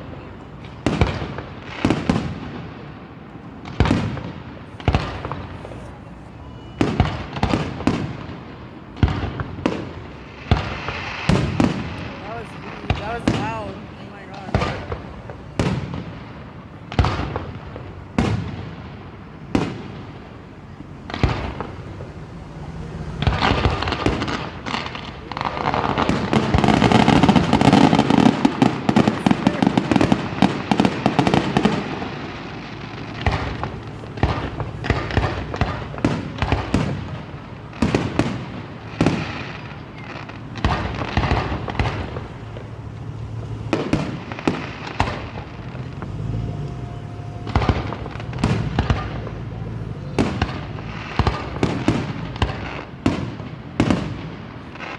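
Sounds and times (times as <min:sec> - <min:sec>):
firework bangs: 0:00.0 - 0:54.9
firework crackling pops: 0:00.0 - 0:54.9.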